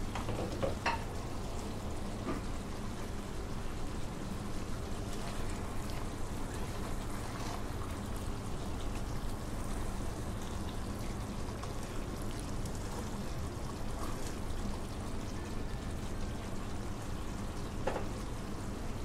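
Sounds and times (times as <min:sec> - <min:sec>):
gravy simmering and bubbling: 0:00.1 - 0:19.0.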